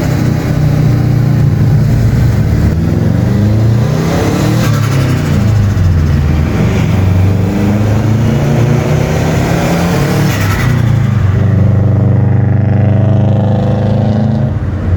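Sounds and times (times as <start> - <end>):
car engine pulling under throttle: 0.0 - 14.9.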